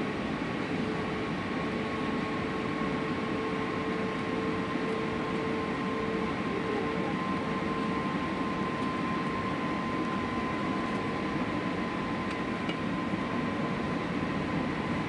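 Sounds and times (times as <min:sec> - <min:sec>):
aircraft cabin engine and airflow rush: 0:00.0 - 0:15.0.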